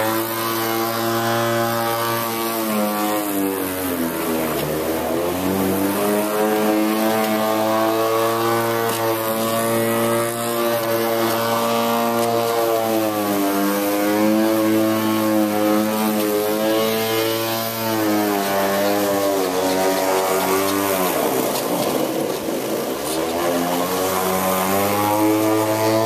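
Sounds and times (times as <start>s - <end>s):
electric lawn mower running: 0.0s - 26.0s.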